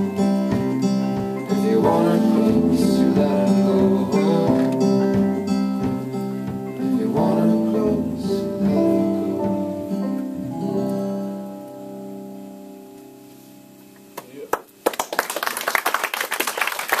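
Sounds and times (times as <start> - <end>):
strummed acoustic guitar: 0.0 - 14.2
sustained notes: 0.0 - 14.2.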